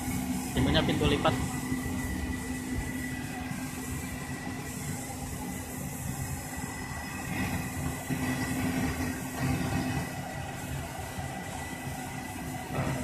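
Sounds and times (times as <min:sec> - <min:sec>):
machine drone with whine: 0:00.0 - 0:13.0.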